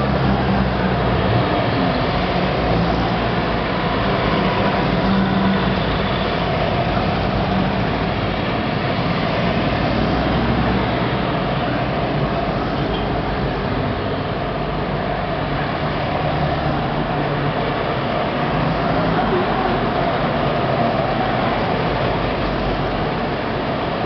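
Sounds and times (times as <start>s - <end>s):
tyre and road noise: 0.0s - 24.0s.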